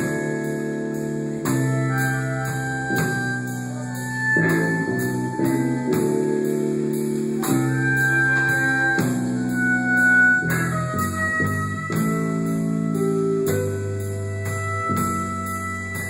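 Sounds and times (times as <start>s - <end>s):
cymbal beat ticking: 0.0s - 16.0s
higher melodic line: 0.0s - 16.0s
keyboard chords: 0.0s - 16.0s.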